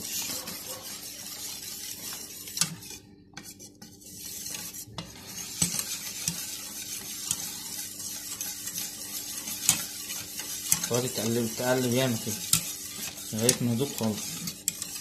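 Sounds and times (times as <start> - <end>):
whisk scraping metal bowl: 0.0 - 15.0.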